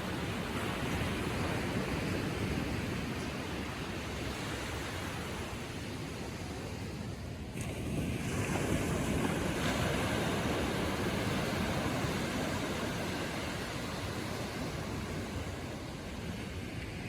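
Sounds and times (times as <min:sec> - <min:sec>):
ocean waves washing on beach: 0:00.0 - 0:17.0.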